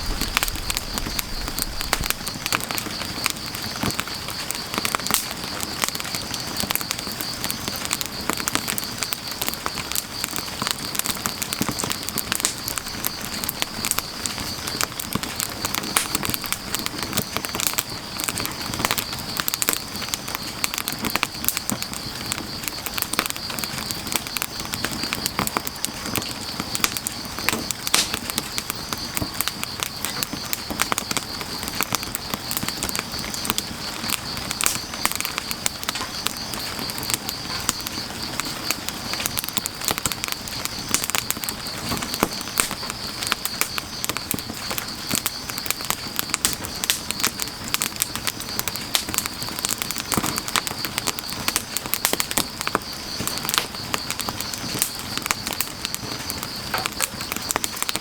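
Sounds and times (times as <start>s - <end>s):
firewood crackling and popping: 0.0s - 58.0s
insects trilling: 0.0s - 58.0s
soft hiss of rain: 0.0s - 58.0s.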